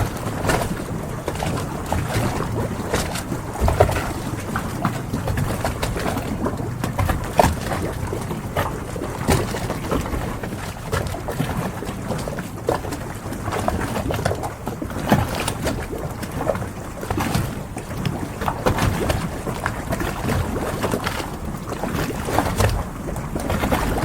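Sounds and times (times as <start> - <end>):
water washing: 0.0 - 24.0
wind: 0.0 - 24.0.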